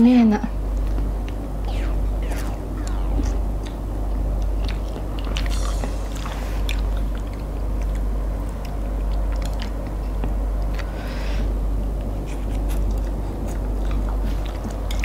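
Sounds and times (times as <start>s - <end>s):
steady low hum: 0.0s - 15.0s
wet chewing with mouth clicks: 0.8s - 11.0s, 12.0s - 15.0s.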